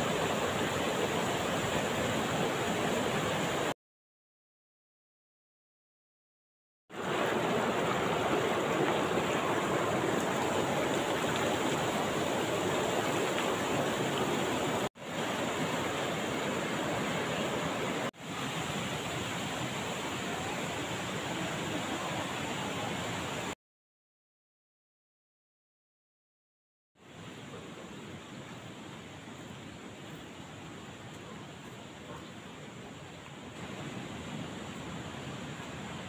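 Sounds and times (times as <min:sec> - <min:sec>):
river water rushing over rocks: 0:00.0 - 0:03.7, 0:06.9 - 0:23.6, 0:27.0 - 0:36.0.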